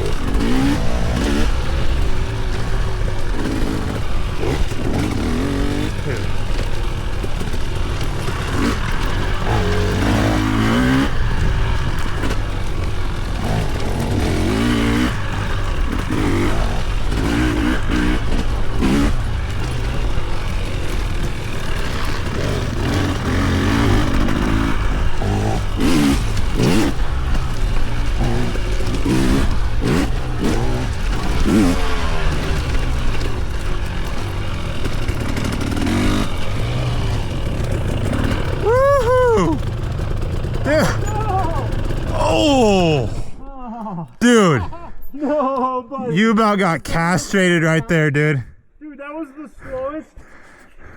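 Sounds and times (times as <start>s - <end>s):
dirt bike engine revving: 0.0s - 43.4s.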